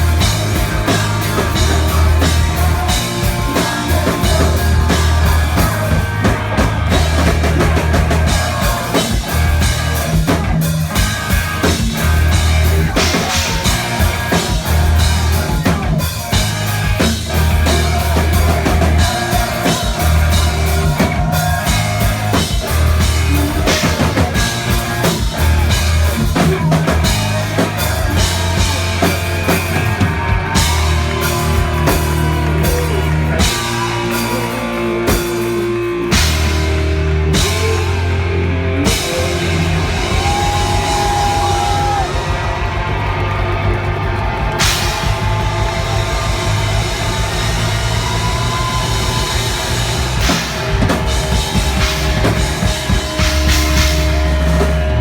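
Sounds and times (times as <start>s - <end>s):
drum kit hits: 0.0s - 38.2s, 38.9s - 55.0s
bass notes: 0.0s - 55.0s
electric guitar: 0.0s - 55.0s.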